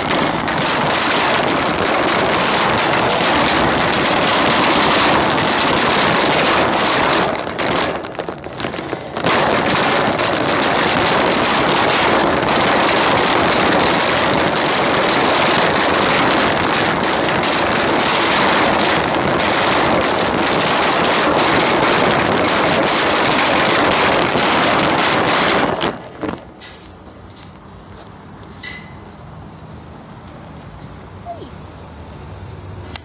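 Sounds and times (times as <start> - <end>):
shopping cart rattling on asphalt: 0.0 - 27.6.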